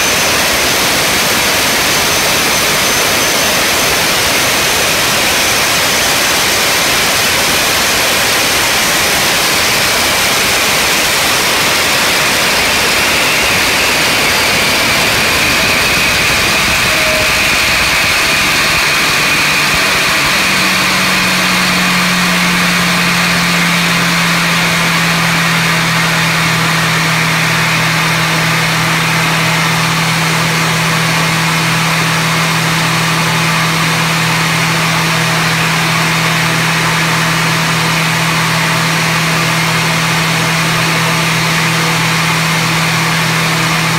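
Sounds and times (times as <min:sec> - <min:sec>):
air start unit rushing noise: 0:00.0 - 0:43.9
high whine: 0:00.0 - 0:43.9.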